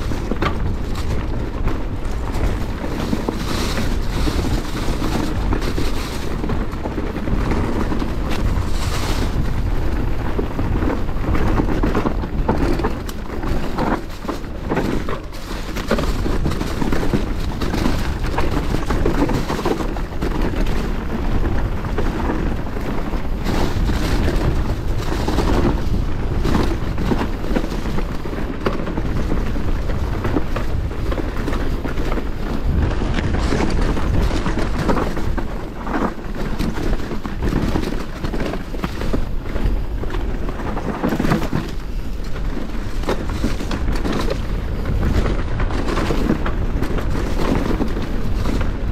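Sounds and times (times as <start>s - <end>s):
bike knocking and rattling: 0.0s - 48.9s
bike tyres rumbling on dirt: 0.0s - 48.9s
wind buffeting microphone: 0.0s - 48.9s.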